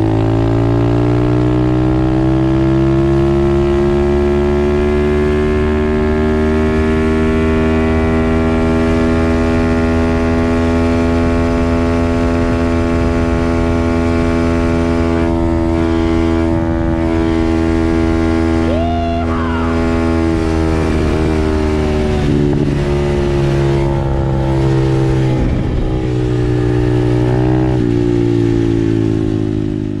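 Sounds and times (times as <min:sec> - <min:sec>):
dirt bike engine cruising: 0:00.0 - 0:30.0.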